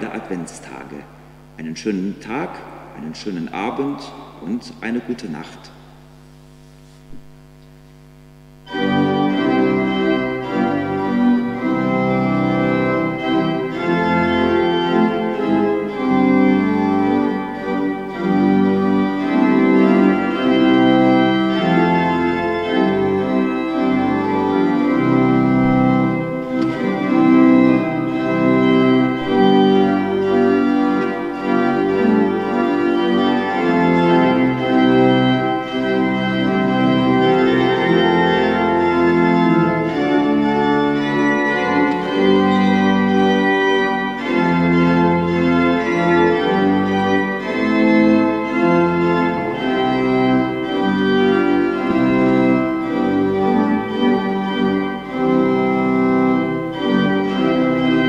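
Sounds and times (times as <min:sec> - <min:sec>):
faint electrical hum: 0:00.0 - 0:58.0
organ playing sustained chords: 0:00.0 - 0:58.0.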